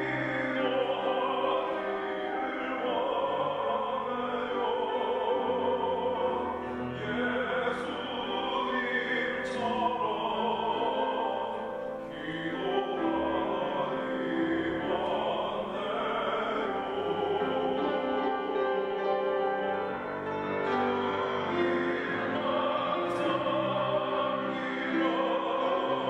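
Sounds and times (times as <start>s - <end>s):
person singing worship song: 0.0s - 19.3s, 20.6s - 26.0s.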